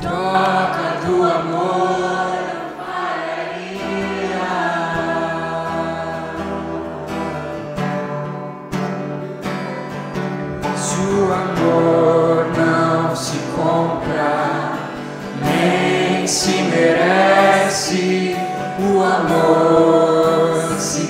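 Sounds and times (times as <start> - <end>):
voices singing long notes: 0.0 - 7.6, 10.9 - 21.0
acoustic guitar: 0.0 - 21.0
keyboard: 0.0 - 21.0.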